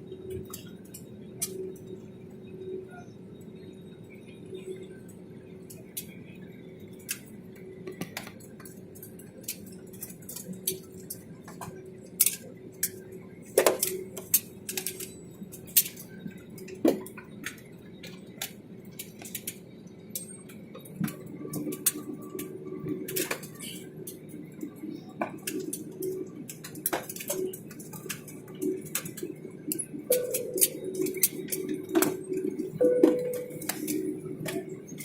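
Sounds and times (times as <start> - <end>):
airplane cabin hum: 0.0 - 35.0.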